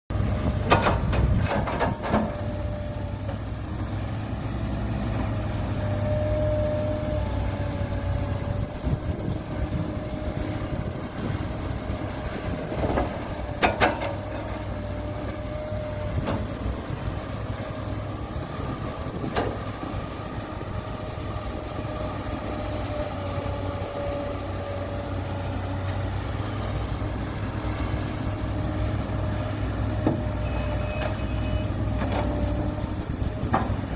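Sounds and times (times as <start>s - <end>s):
heavy diesel machinery rumbling: 0.1s - 33.9s.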